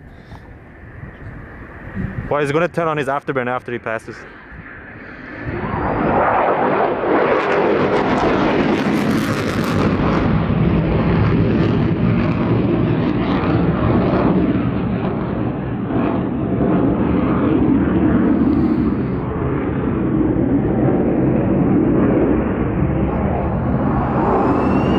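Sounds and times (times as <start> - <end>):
jet engine in afterburner: 0.0 - 24.9
sharp crackling of jet: 1.8 - 24.9.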